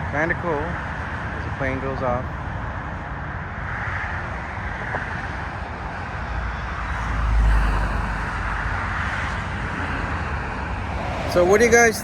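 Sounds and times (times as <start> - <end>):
jet engine roaring on takeoff: 1.2 - 12.0.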